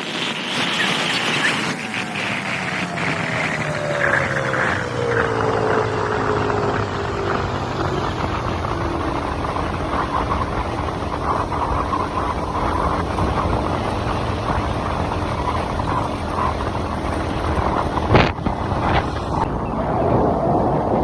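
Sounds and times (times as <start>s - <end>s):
rushing air noise: 0.0s - 21.0s
motorcycle engine running: 2.1s - 21.0s.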